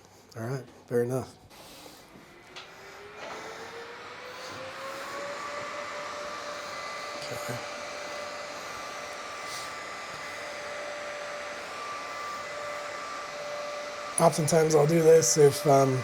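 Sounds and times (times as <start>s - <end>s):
cooling fan whirring: 0.5s - 16.0s.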